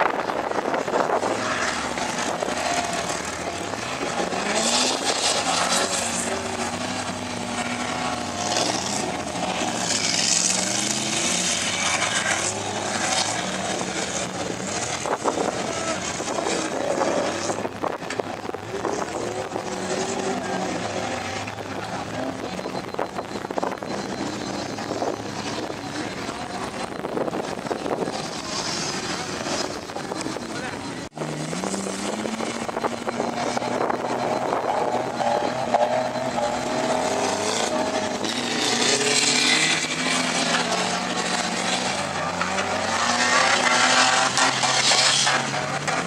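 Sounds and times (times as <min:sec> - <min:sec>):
vehicle engine revving: 0:00.0 - 0:46.0
voices: 0:00.0 - 0:46.0.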